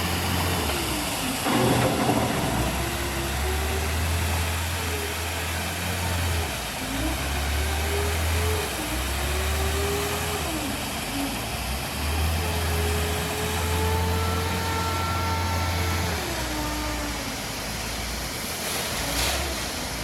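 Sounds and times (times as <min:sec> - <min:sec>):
heavy machinery drone: 0:00.0 - 0:19.9.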